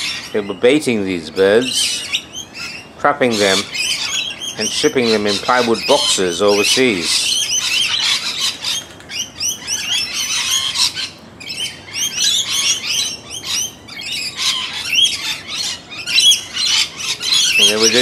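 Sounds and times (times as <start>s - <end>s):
parrots screeching and chattering: 0.0s - 18.0s.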